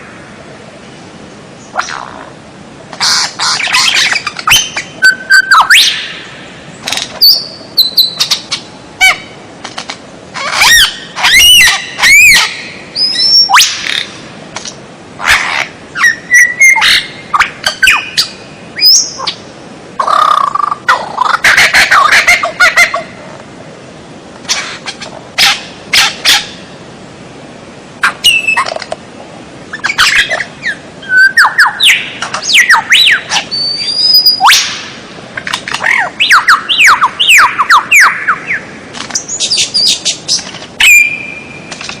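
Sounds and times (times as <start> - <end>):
recorded songbird calls: 1.6 - 9.5, 10.3 - 23.2, 24.4 - 26.7, 28.0 - 28.9, 29.7 - 42.0.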